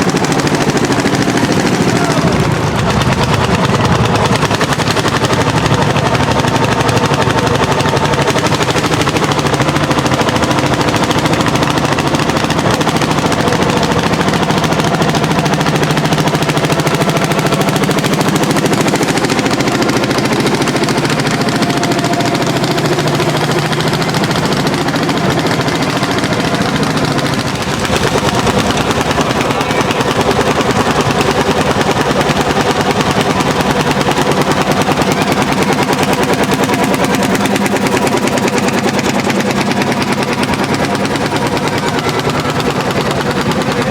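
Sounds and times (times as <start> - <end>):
tractor engine popping exhaust: 0.0 - 43.9.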